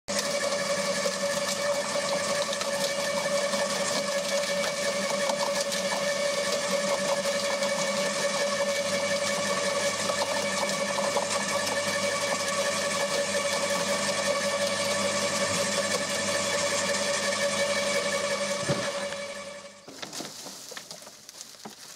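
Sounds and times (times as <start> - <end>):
machine chopping cane: 0.1 - 21.9.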